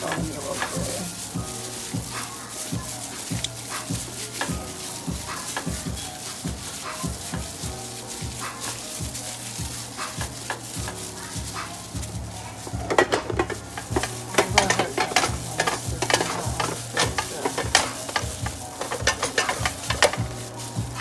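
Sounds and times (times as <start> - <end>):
crinkling plastic glove: 0.0 - 21.0
wet squishing of meat: 0.0 - 21.0.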